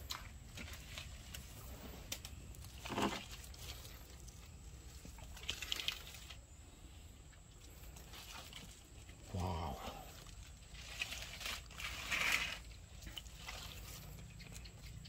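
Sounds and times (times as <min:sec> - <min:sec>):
spiky leaves rustling and scraping: 0:00.0 - 0:15.0.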